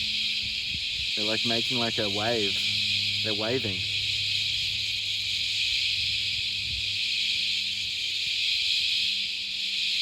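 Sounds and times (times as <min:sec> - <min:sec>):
cicadas shrilling: 0:00.0 - 0:10.0.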